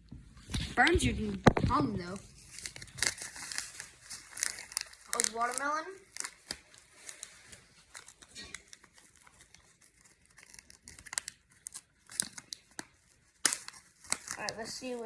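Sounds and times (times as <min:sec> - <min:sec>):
candy packet crinkling and crackling: 0:00.8 - 0:15.0.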